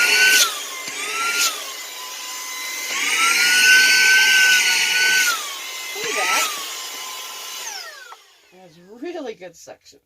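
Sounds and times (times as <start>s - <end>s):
handheld vacuum cleaner running: 0.0s - 9.0s.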